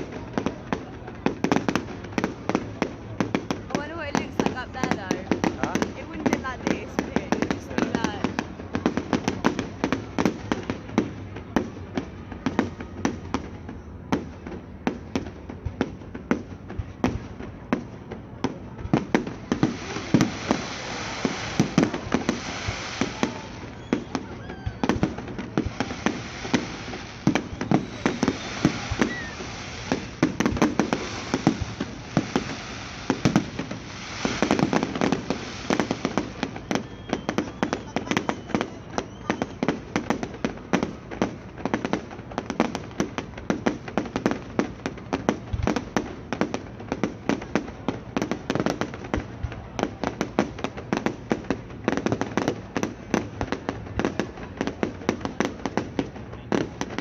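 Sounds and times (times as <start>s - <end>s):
fireworks bangs: 0.0s - 57.0s
fireworks hissing crackle: 0.0s - 57.0s.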